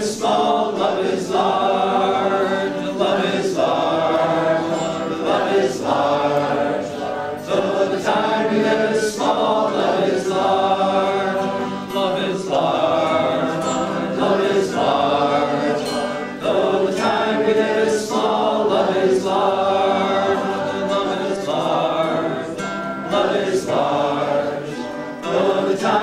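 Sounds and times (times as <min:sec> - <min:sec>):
group singing folk chorus: 0:00.0 - 0:26.0
strummed acoustic guitar: 0:00.0 - 0:26.0.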